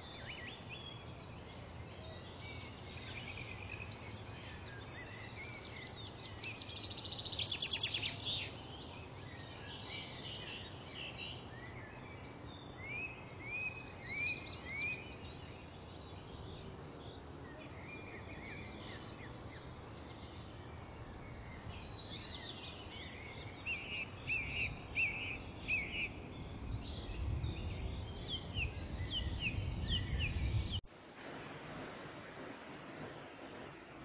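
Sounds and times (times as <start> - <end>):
birds chirping: 0.0 - 30.9
outdoor background noise: 0.0 - 34.0.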